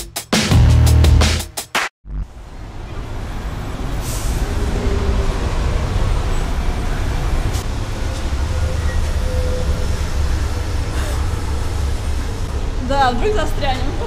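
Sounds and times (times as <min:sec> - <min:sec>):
road traffic rumble: 0:02.1 - 0:14.0.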